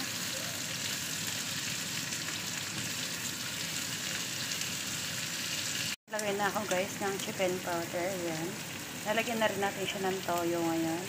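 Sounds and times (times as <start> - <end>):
vegetables and meat sizzling in oil: 0.0 - 11.0.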